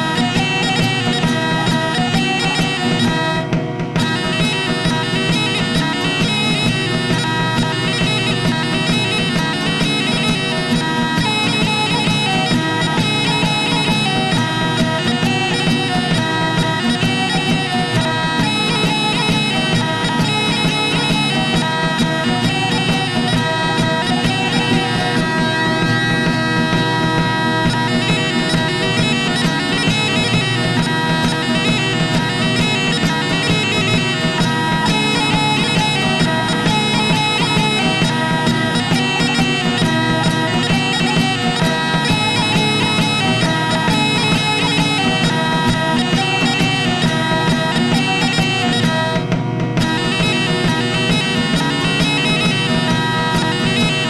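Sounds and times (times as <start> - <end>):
bagpipe-like drone and melody: 0.0 - 54.0.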